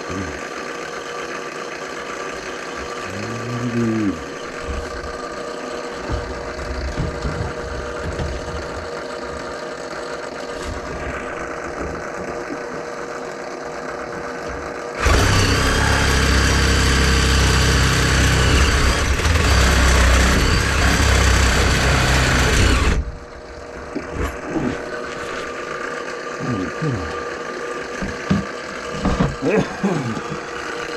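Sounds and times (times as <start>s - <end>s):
drain cleaning machine spinning: 0.0s - 30.9s.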